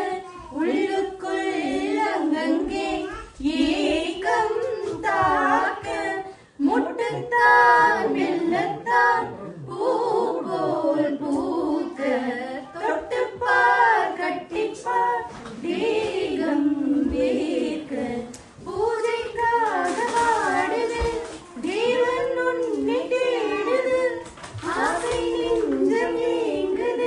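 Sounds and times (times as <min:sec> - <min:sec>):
women singing together: 0:00.0 - 0:27.0.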